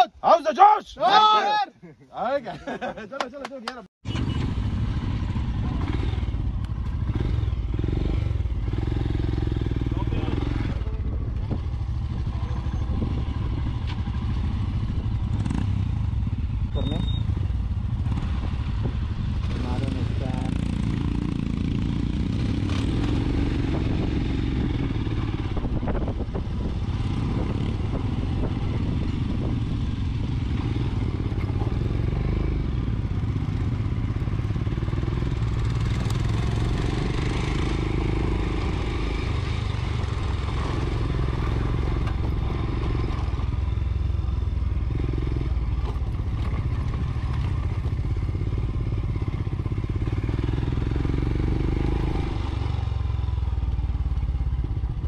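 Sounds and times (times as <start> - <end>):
other motorcycle engines: 4.0 - 55.0
motorcycle engine running: 4.1 - 55.0.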